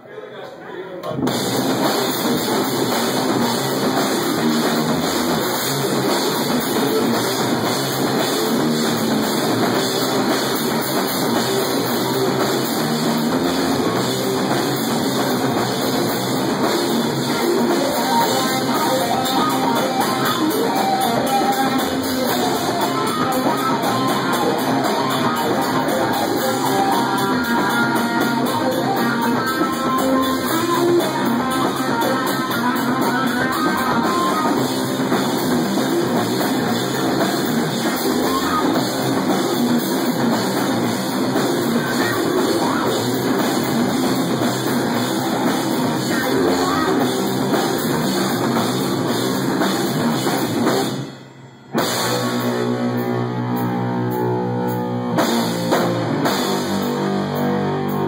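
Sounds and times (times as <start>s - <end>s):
metal band playing live: 1.1s - 58.0s.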